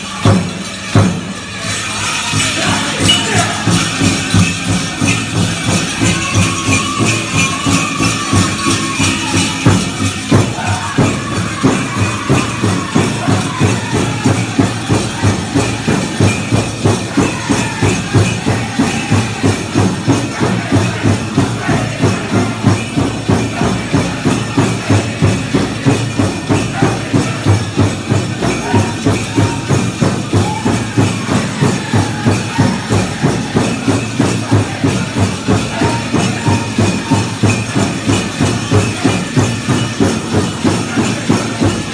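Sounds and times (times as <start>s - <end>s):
bells jingling: 0.0s - 41.9s
steady drum beat: 0.0s - 41.9s
group singing: 2.2s - 41.9s.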